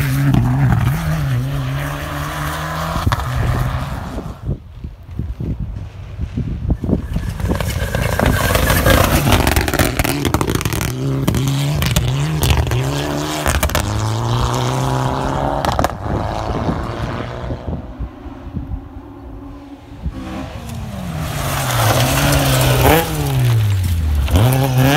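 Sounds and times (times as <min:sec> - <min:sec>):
rally car engine revving: 0:00.0 - 0:04.6, 0:07.0 - 0:24.9
tyres on gravel: 0:00.0 - 0:17.1, 0:20.1 - 0:24.9.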